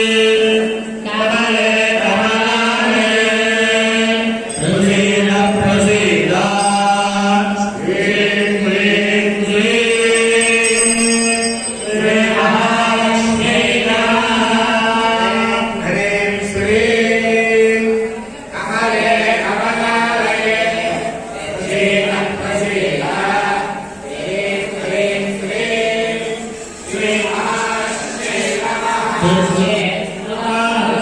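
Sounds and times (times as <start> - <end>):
priests chanting in unison: 0.0 - 31.0.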